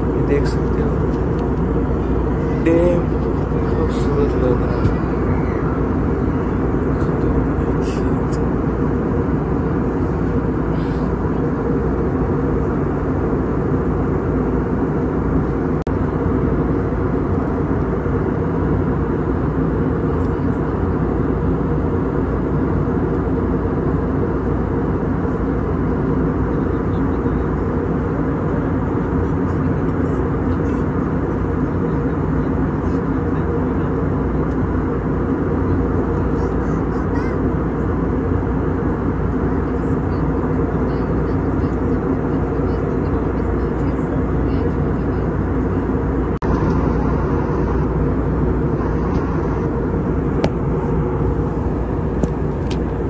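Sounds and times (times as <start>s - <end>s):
airliner cabin engine noise: 0.0s - 53.0s.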